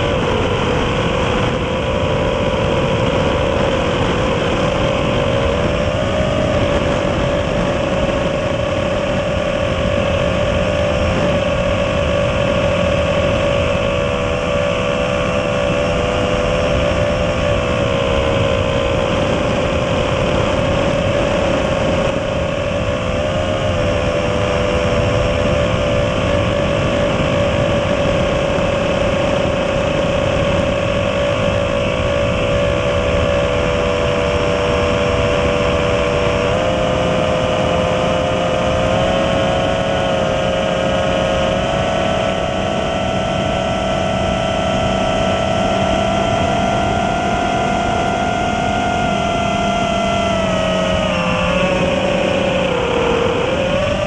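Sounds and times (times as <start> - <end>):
drone motors whining: 0.0 - 54.0
wind rush: 0.0 - 54.0.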